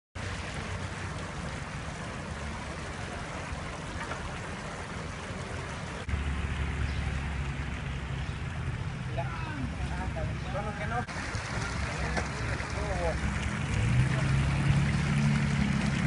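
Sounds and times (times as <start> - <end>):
water pouring into storm drain: 0.2 - 16.0.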